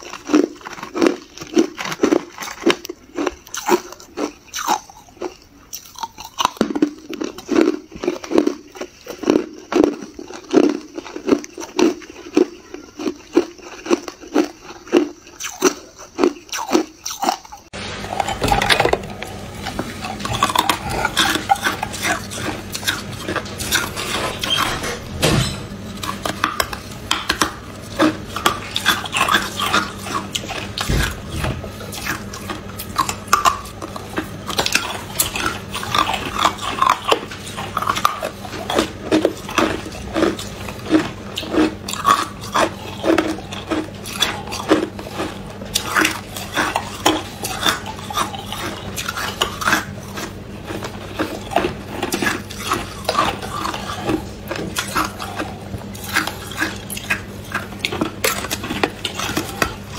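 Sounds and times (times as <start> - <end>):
ice crunching in mouth: 0.0 - 25.0, 25.9 - 59.9.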